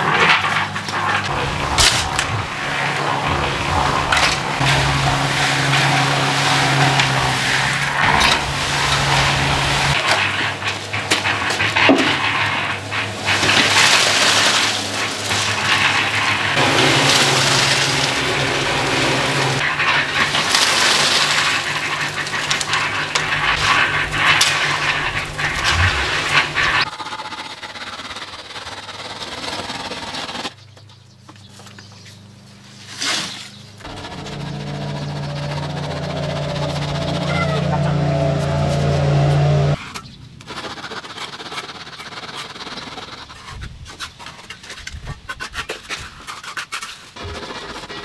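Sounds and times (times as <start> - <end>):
tools scraping wet concrete: 0.0 - 27.1, 32.8 - 48.0.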